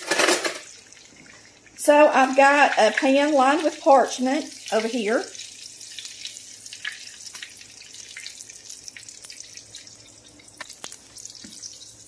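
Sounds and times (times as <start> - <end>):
food sizzling in hot oil: 0.6 - 12.0.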